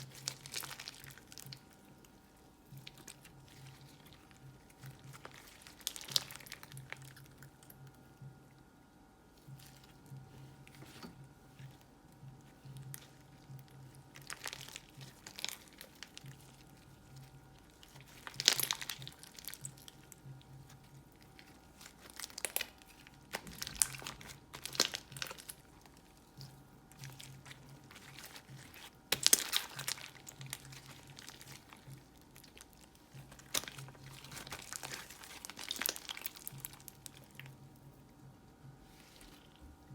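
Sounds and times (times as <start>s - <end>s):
slime crackling and popping: 0.0s - 7.8s, 12.5s - 37.6s.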